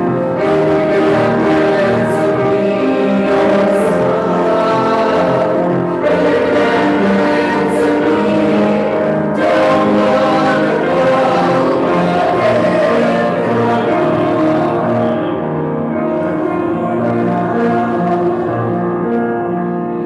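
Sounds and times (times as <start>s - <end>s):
congregation singing a hymn: 0.0s - 20.0s
piano accompaniment: 0.0s - 20.0s.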